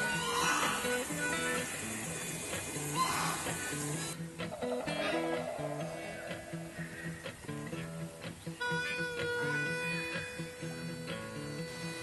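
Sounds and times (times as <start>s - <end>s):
acoustic guitar melody: 0.0s - 12.0s.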